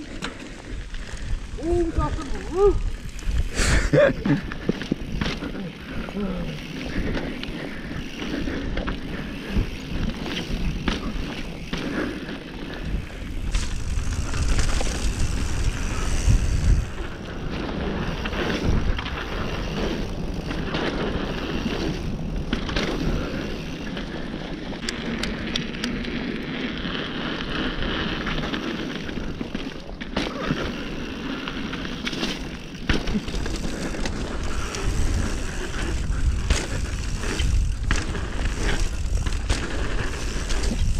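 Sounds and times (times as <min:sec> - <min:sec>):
wind rumble on microphone: 0:00.0 - 0:25.6, 0:33.1 - 0:40.9
bike rattling over bumps: 0:00.0 - 0:40.9
bike tyres crunching over dirt: 0:00.0 - 0:40.9.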